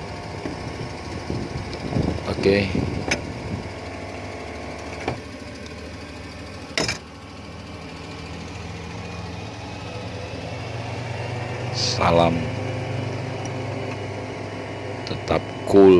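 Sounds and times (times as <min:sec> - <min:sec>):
excavator diesel engine idling: 0:00.0 - 0:15.9.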